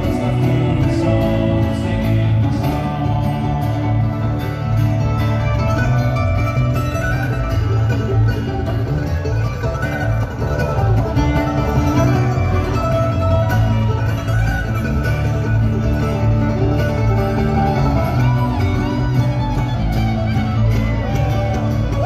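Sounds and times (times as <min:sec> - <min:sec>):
fiddle: 0:00.0 - 0:22.0
mandolin: 0:00.0 - 0:22.0
upright bass line: 0:00.0 - 0:22.0.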